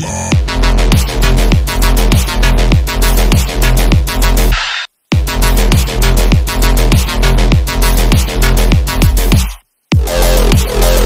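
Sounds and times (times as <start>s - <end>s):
electronic music: 0.0s - 11.0s
heavy bass line: 0.0s - 11.0s.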